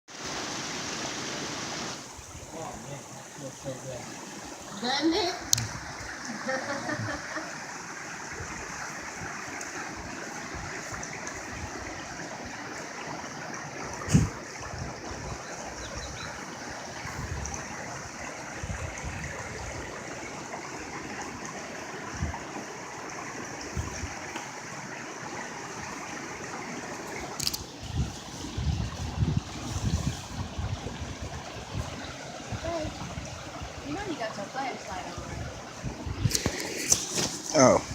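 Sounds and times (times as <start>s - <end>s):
waterfall running over rocks: 0.1s - 37.9s.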